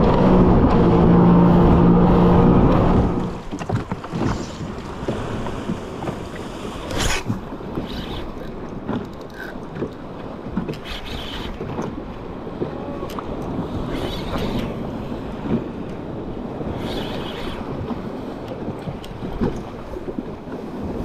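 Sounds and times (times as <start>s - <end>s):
water sloshing: 0.0s - 21.0s
wind buffeting microphone: 0.0s - 21.0s.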